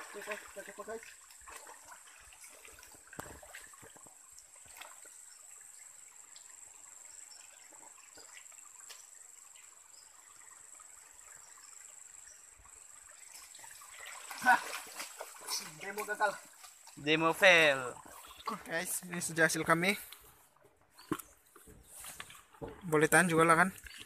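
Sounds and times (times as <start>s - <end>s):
stream trickling: 0.0s - 24.0s.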